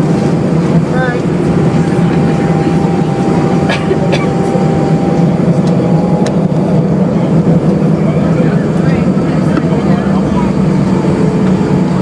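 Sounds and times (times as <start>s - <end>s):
jet engines rumbling: 0.0s - 12.0s
thin steady whine: 0.0s - 12.0s.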